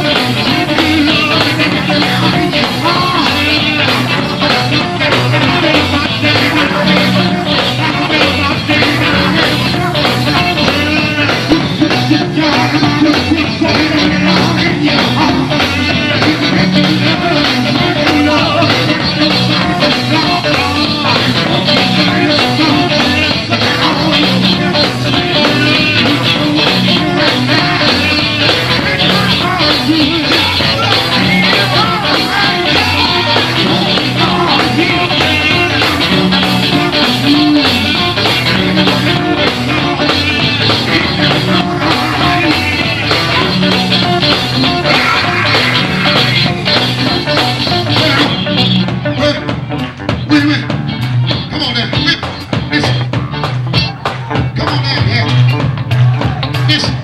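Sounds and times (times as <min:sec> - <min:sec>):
gospel band playing: 0:00.0 - 0:57.0
voices singing: 0:00.0 - 0:57.0.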